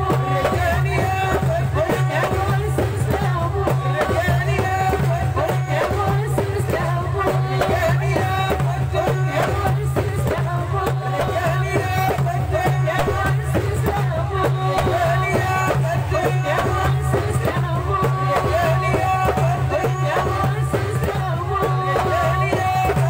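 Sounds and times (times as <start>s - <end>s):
loud steady drumming: 0.0s - 23.0s
person singing: 0.0s - 23.0s.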